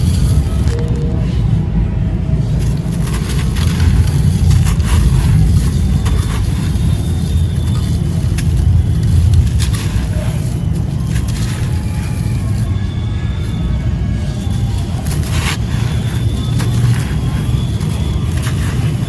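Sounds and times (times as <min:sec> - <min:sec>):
concrete crumbling and crunching: 0:00.0 - 0:01.0, 0:02.5 - 0:19.0.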